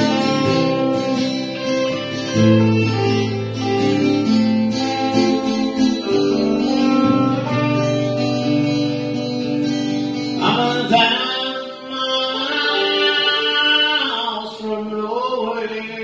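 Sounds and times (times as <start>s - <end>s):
electric guitar sustained notes: 0.0s - 15.0s
acoustic guitar playing: 0.0s - 16.0s.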